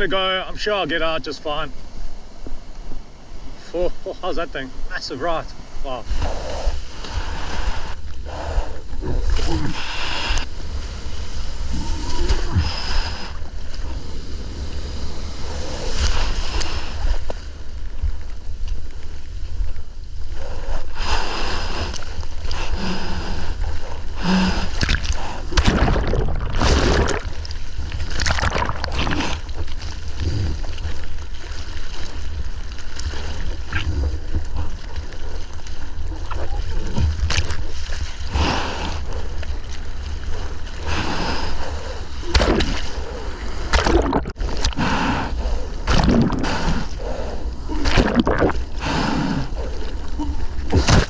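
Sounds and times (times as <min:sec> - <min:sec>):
low rumble of water: 0:00.0 - 0:51.0
wind on microphone: 0:05.7 - 0:51.0.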